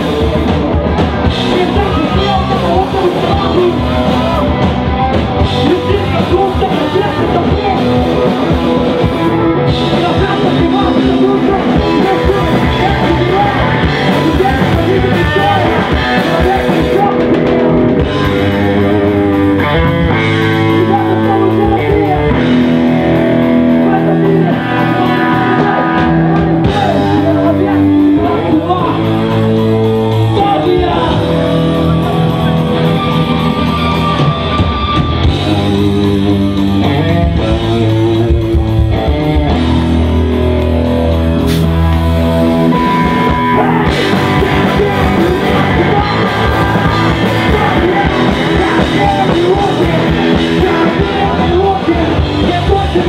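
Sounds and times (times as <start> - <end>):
person singing lead vocal: 0.0 - 40.0, 41.6 - 53.0
drum kit: 0.0 - 53.0
electric guitar: 0.0 - 53.0.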